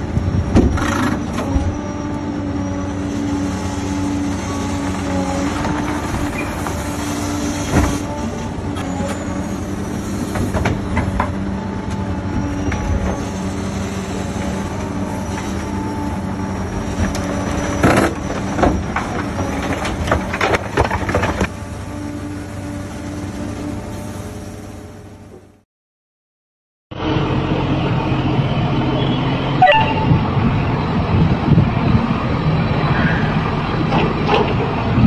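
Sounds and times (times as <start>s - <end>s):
excavator diesel engine and hydraulics: 0.0s - 25.6s, 26.9s - 35.0s.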